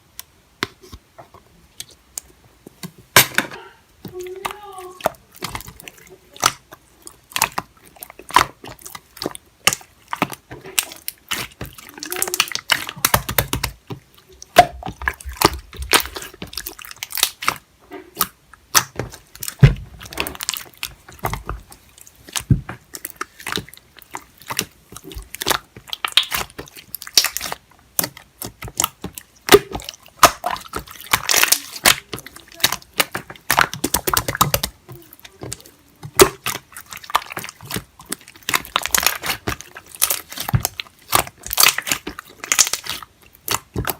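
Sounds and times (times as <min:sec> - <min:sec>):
slime squelching and crackling: 0:00.0 - 0:43.9.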